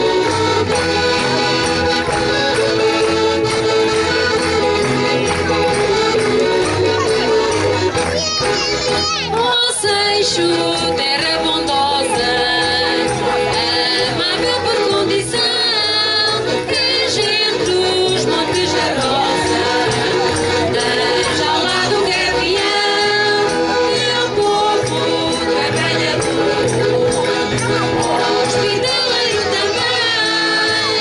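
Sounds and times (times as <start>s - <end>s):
choir singing folk song: 0.0s - 7.8s, 9.4s - 31.0s
accordion: 0.0s - 31.0s
guitar: 0.0s - 31.0s.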